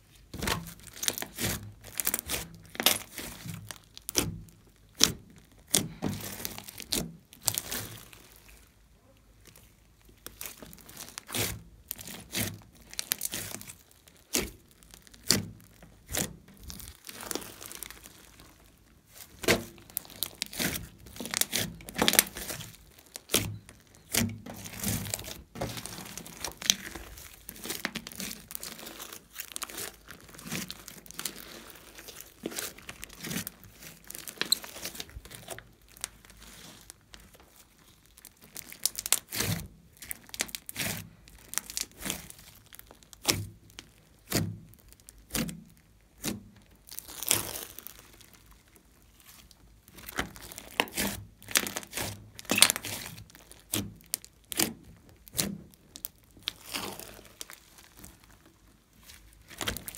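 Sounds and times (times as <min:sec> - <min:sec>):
sticky slime crackling: 0:00.0 - 0:59.9.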